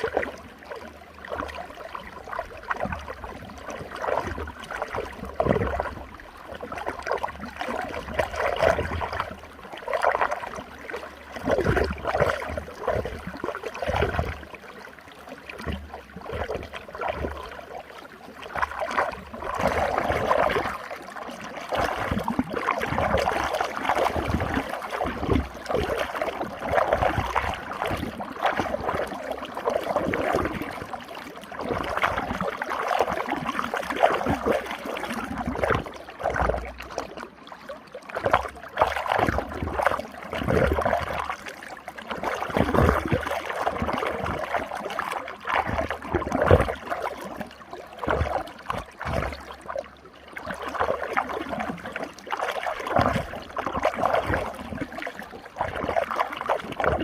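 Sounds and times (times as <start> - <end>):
water swirling in a whirlpool: 0.0 - 57.0.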